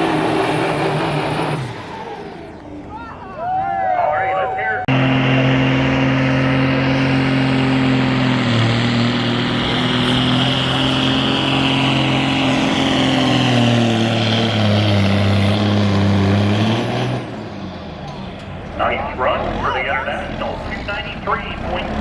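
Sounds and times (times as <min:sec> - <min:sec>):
diesel truck engine under load: 0:00.0 - 0:03.6, 0:04.2 - 0:22.0.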